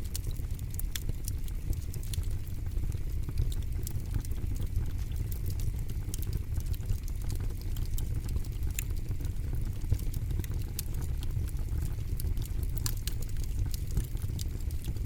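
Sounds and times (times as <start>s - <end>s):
campfire crackling and popping: 0.0s - 15.0s
flames rumbling: 0.0s - 15.0s.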